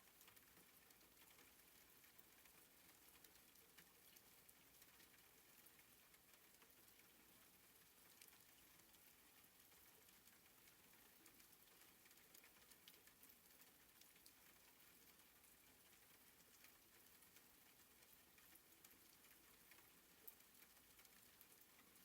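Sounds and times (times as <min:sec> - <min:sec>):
soft rain falling: 0:00.0 - 0:22.0.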